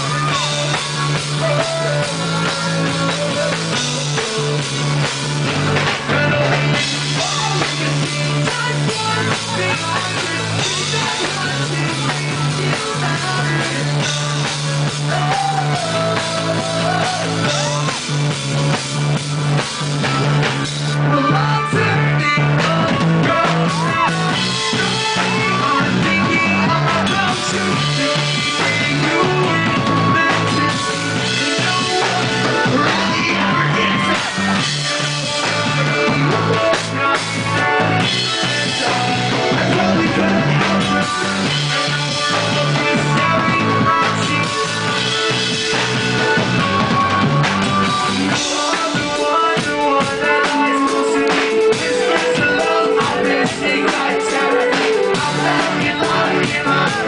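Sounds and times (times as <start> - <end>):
drums: 0.0 - 57.0
guitars: 0.0 - 57.0
rock band playing live: 0.0 - 57.0.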